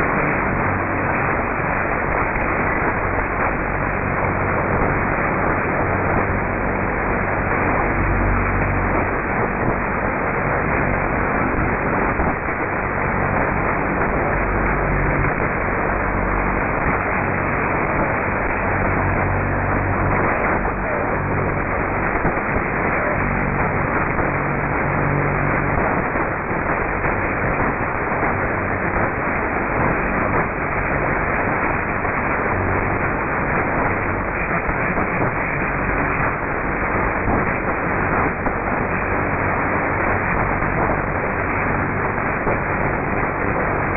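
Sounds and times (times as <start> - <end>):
low hum: 0.0 - 43.9
radio static hiss: 0.0 - 43.9.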